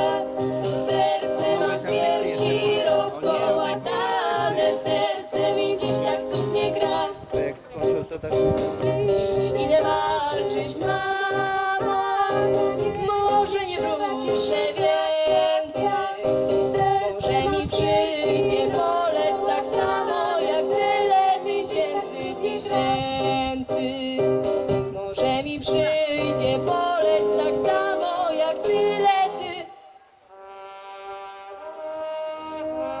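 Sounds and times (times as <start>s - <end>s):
women and girls singing: 0.0s - 7.4s, 8.8s - 24.3s, 25.0s - 30.0s
instrumental accompaniment: 0.0s - 29.7s.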